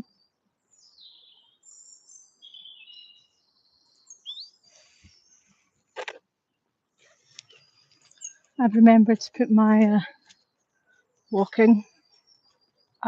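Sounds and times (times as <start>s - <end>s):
songbirds singing: 0.0s - 5.7s, 6.4s - 13.0s.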